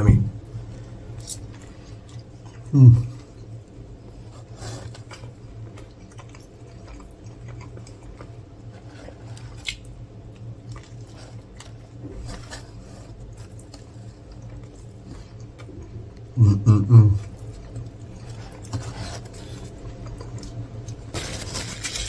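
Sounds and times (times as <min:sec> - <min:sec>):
person chewing food: 0:00.0 - 0:22.0
steady low hum: 0:00.0 - 0:22.0.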